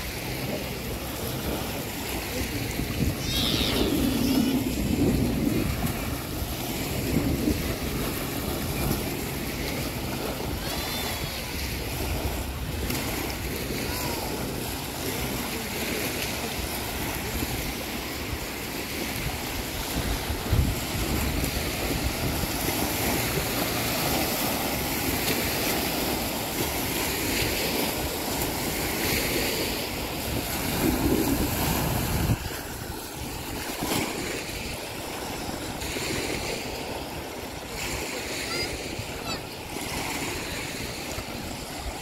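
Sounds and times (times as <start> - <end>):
small waves washing on shore: 0.0 - 42.0
wind buffeting microphone: 0.0 - 42.0.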